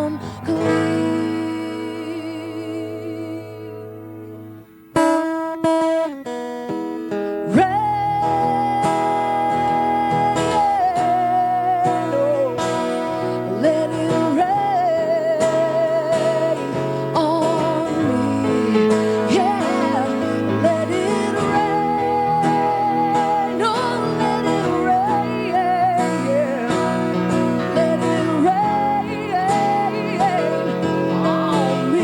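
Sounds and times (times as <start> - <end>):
acoustic guitar chords: 0.0 - 32.0.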